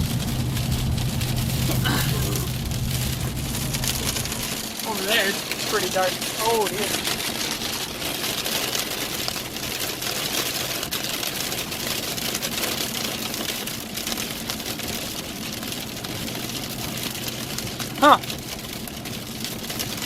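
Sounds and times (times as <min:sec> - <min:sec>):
heavy rain on a vehicle: 0:00.0 - 0:20.0
low hum of engine and road: 0:00.0 - 0:20.0.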